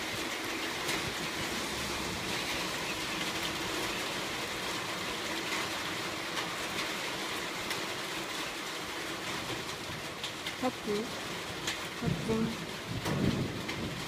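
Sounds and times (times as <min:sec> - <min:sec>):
steady rain hiss: 0:00.0 - 0:14.0
raindrops ticking: 0:02.3 - 0:14.0.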